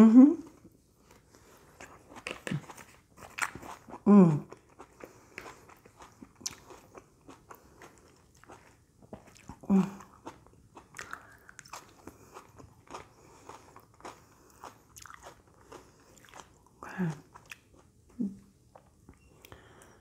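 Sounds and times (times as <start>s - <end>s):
person chewing crunchy vegetables: 0.5s - 20.0s.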